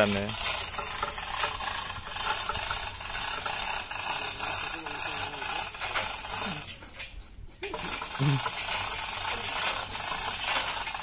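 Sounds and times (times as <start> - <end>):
metal rigging clinking and rattling: 0.0 - 11.0
outdoor background noise: 0.0 - 11.0.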